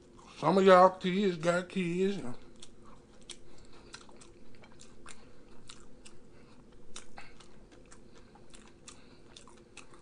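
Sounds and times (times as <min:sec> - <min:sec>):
close chewing with mouth clicks: 0:00.0 - 0:00.4, 0:02.4 - 0:10.0.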